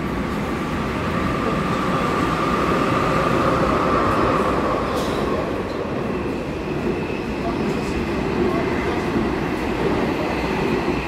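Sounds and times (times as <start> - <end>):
train rumbling on track: 0.0 - 11.0
train whine: 0.0 - 11.0.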